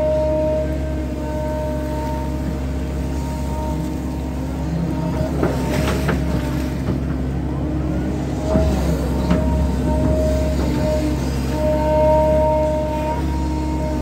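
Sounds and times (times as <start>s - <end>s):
diesel engine droning: 0.0s - 14.0s
hydraulic whine: 0.0s - 14.0s.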